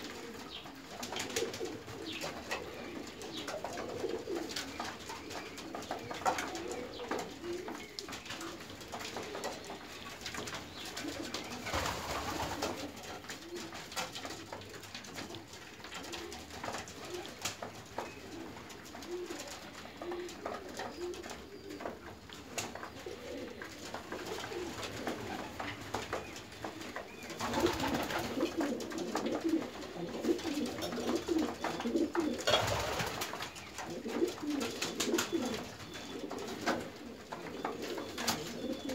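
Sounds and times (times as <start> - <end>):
pigeons cooing: 0.0 - 38.9
wings flapping: 0.0 - 38.9.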